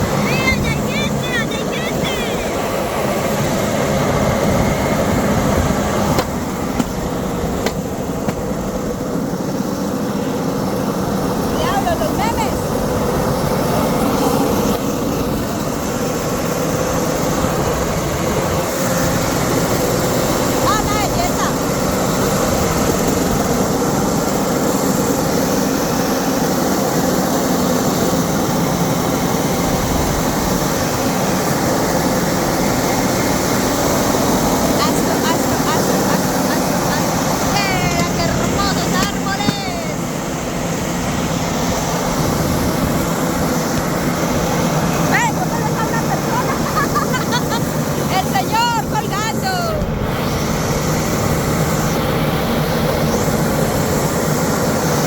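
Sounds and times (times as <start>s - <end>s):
steady rumbling: 0.0s - 55.0s.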